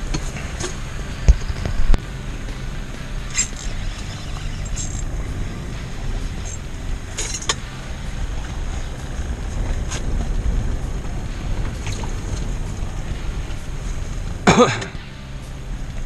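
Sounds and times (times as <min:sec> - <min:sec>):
wind rumble buffeting: 0:00.0 - 0:16.0.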